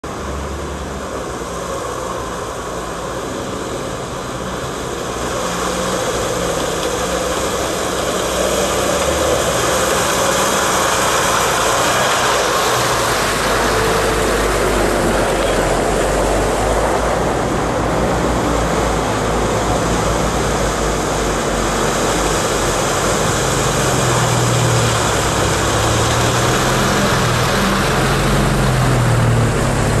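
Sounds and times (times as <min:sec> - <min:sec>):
off-road vehicle engine driving: 0:00.0 - 0:30.0.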